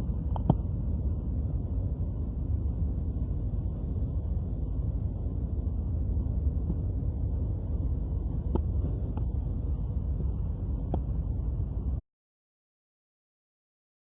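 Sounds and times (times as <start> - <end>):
propeller airliner engines droning: 0.0 - 12.0.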